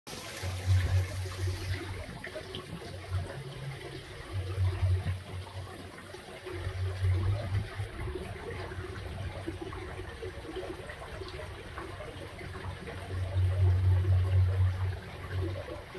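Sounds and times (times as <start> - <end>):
waterfall splashing into pond: 0.1 - 15.9.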